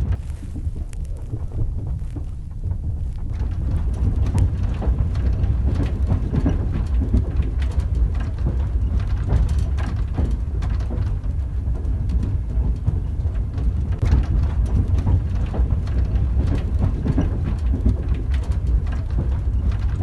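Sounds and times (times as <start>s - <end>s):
train rumbling: 0.0s - 20.0s
wheels clicking on rails: 0.0s - 20.0s.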